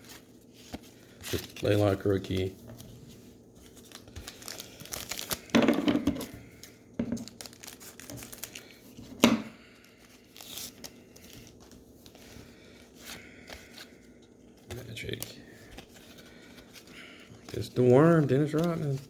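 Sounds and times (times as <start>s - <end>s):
paper packaging crinkling: 0.0s - 5.6s, 6.2s - 19.0s.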